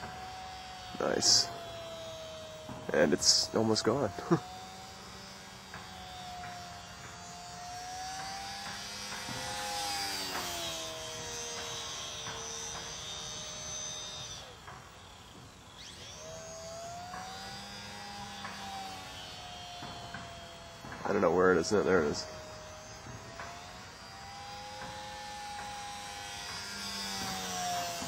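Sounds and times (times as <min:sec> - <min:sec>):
model plane motor whining: 0:00.0 - 0:28.0.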